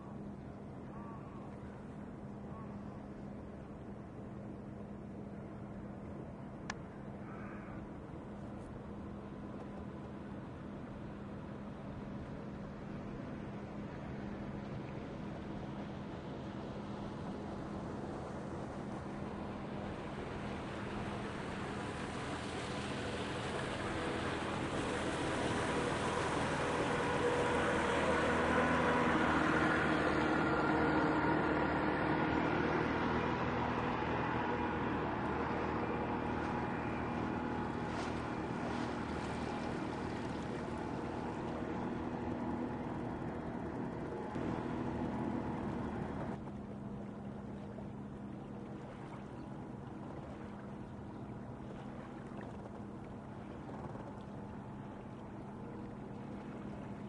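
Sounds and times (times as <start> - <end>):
boat engine humming: 0.0 - 57.0.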